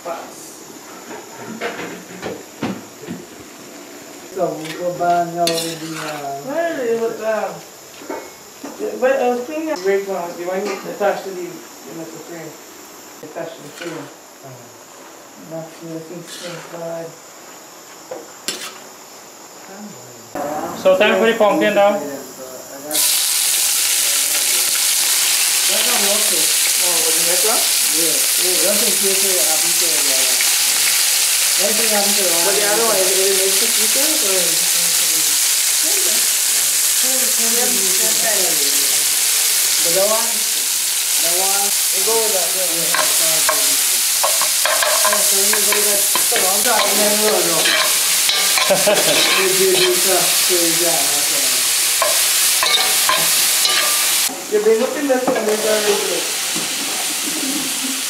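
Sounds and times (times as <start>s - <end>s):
onions sizzling in hot oil: 1.2s - 19.4s, 22.7s - 58.0s.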